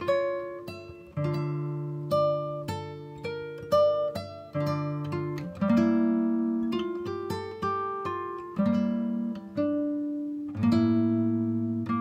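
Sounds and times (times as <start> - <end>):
acoustic guitar plucked chords: 0.0 - 12.0.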